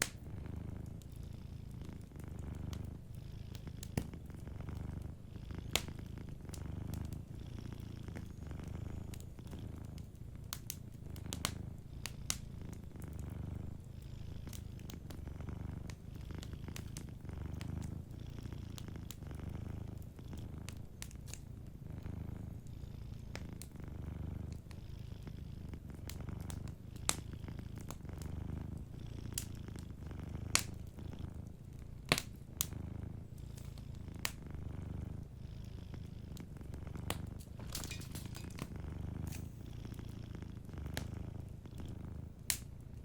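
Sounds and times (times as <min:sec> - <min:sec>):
cat purring: 0:00.0 - 0:43.0
wood fire crackling: 0:00.0 - 0:43.0.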